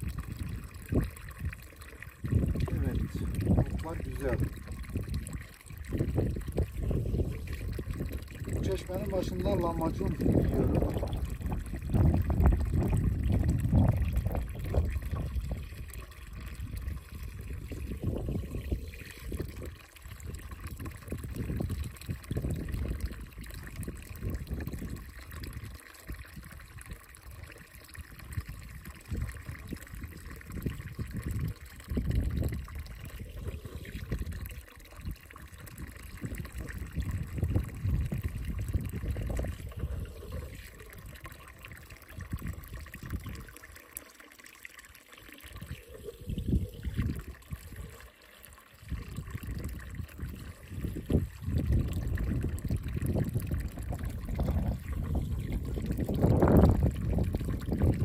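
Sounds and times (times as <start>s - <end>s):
water trickling from spring: 0.0s - 58.0s.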